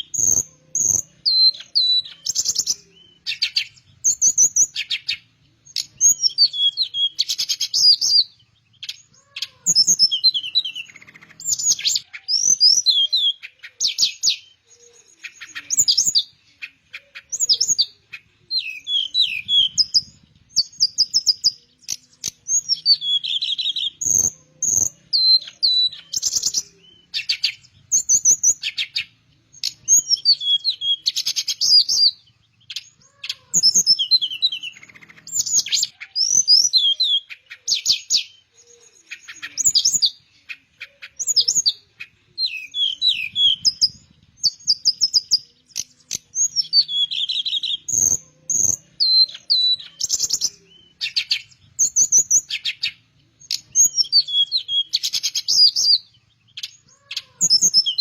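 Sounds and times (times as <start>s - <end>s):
flycatcher singing trills and whistles: 0.0s - 58.0s.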